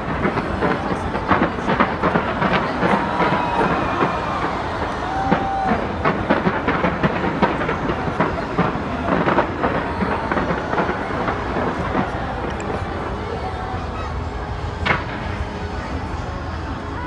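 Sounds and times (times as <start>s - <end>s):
fireworks cracks and pops: 0.0s - 13.6s, 14.8s - 15.7s
low rumble and hiss: 0.0s - 17.0s.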